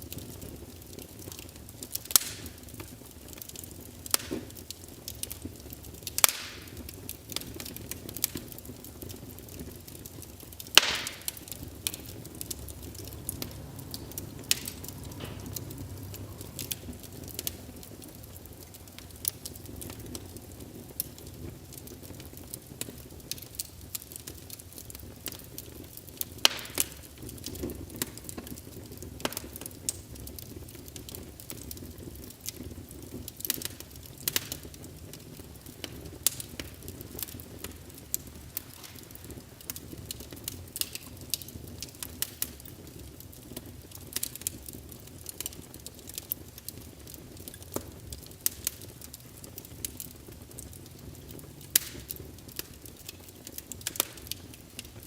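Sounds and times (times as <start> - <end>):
logs crackling and popping: 0.0 - 55.0
steady rush of flame: 0.0 - 55.0.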